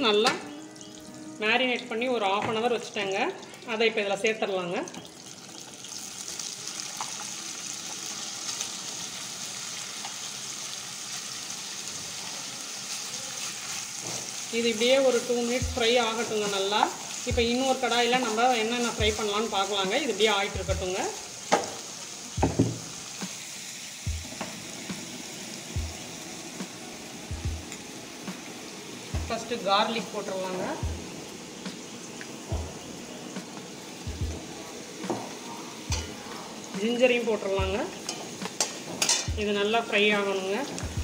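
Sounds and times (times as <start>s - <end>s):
chicken sizzling in hot oil: 5.0s - 41.0s.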